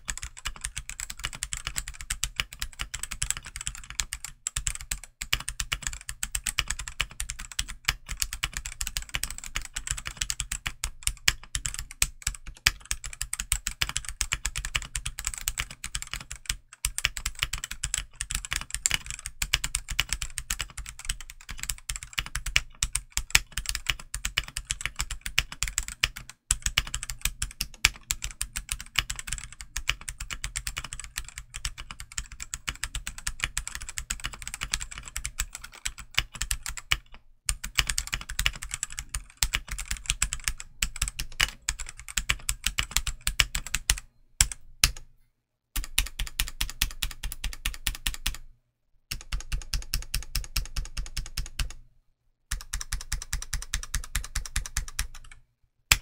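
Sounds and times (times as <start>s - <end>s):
mechanical keyboard typing: 0.0s - 45.1s, 45.8s - 48.5s, 49.1s - 51.8s, 52.5s - 56.0s.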